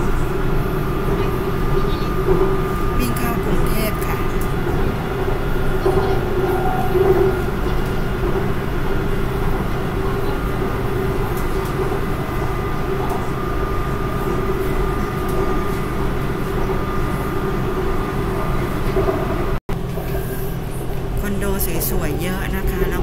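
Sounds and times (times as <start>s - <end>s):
steady train whine: 0.0s - 23.0s
train rumbling in motion: 0.0s - 23.0s.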